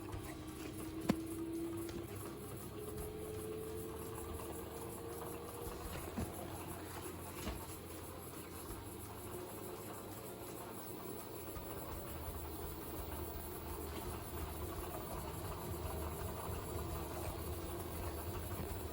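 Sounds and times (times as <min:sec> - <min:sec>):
motor whine: 0:00.0 - 0:18.9
washing machine drum hum: 0:00.0 - 0:18.9.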